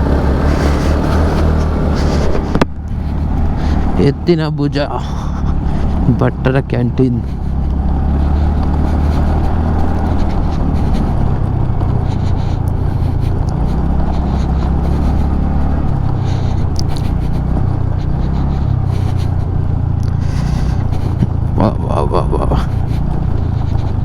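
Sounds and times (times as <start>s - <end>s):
motorcycle engine running: 0.0s - 24.0s
rider talking: 3.7s - 24.0s.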